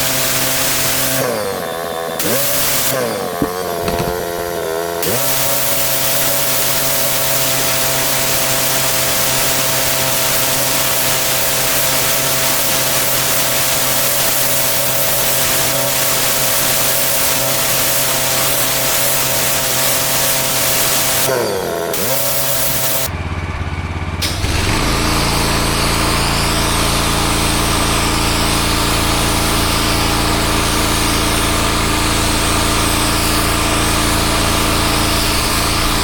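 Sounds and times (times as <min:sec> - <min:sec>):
high-pressure water jet hissing: 0:00.0 - 0:23.1, 0:24.2 - 0:36.0
pressure washer engine: 0:00.0 - 0:36.0.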